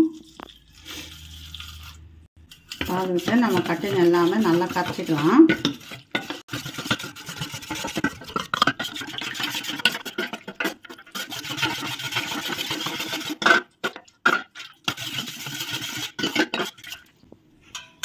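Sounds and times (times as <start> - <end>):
spoon scraping steel bowl: 0.0 - 17.1.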